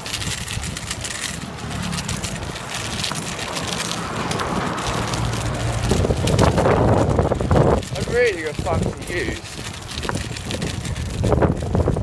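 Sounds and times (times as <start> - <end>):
scooter wheels rattling on pavement: 0.0 - 12.0
wind buffeting microphone: 0.0 - 12.0.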